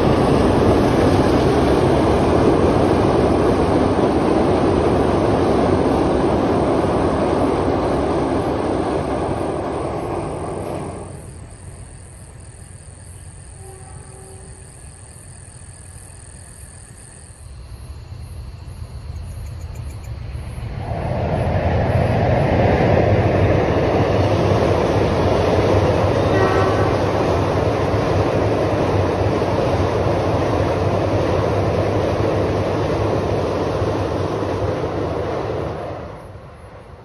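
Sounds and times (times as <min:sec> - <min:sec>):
train crossing steel bridge: 0:00.0 - 0:37.0.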